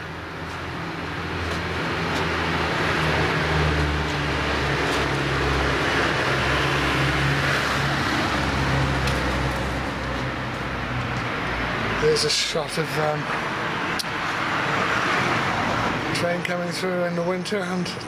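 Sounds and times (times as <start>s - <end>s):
road and traffic noise: 0.0s - 18.0s.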